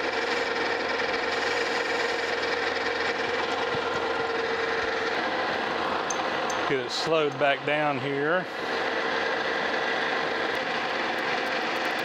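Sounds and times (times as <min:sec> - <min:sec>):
lathe spindle whine: 0:00.0 - 0:12.0
mechanical hum: 0:00.0 - 0:12.0.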